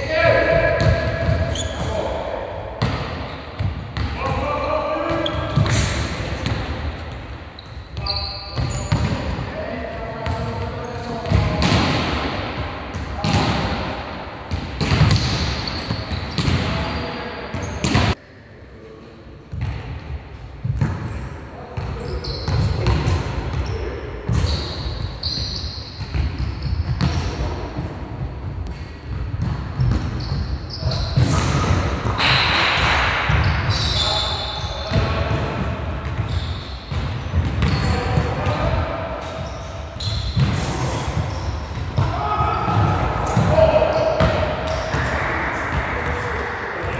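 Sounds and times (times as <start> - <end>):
volleyballs thudding in hall: 0.0 - 18.2, 19.4 - 25.2, 26.0 - 46.9.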